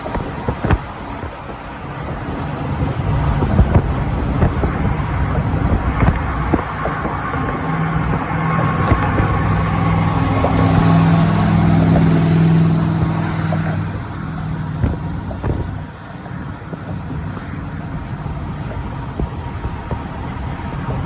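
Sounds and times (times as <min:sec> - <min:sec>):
road noise: 0:00.0 - 0:21.0
truck engine running: 0:00.0 - 0:21.0.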